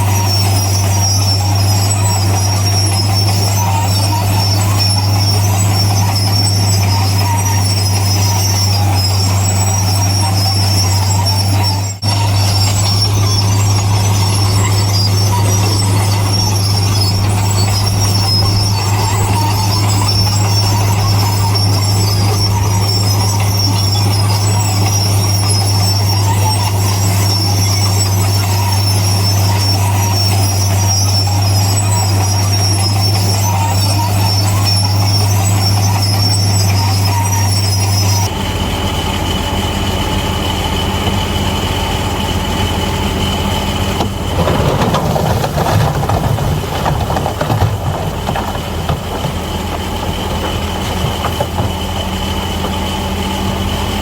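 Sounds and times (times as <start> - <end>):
rough clatter: 0.0 - 38.3, 43.3 - 53.7
bulldozer diesel engine whining: 0.0 - 54.0.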